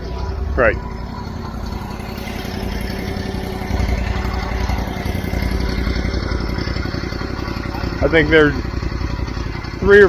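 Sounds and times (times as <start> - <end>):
construction equipment engine running: 0.0 - 10.0.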